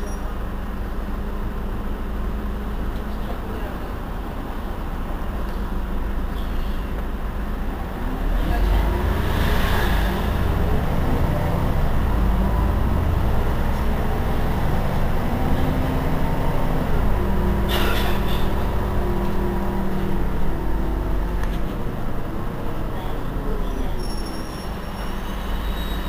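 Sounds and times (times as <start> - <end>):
bus engine idling: 0.0 - 26.0.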